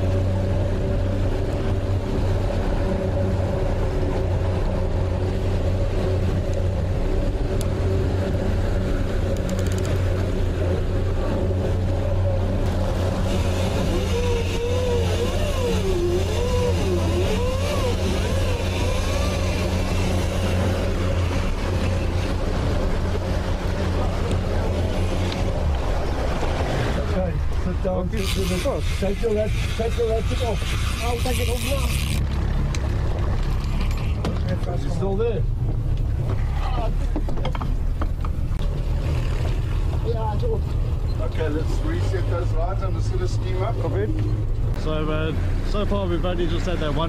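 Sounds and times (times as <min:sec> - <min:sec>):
boat engine drone: 0:00.0 - 0:47.0
rushing wake water: 0:00.0 - 0:47.0.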